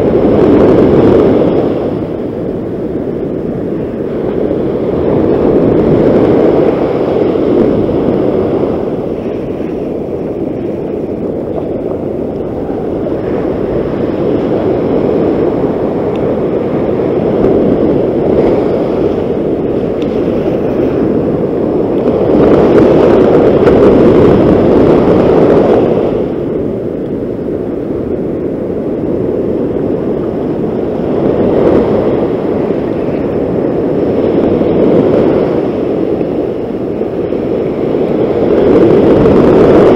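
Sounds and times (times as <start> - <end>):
ocean surf breaking: 0.0 - 39.9
wind on microphone: 0.0 - 39.9.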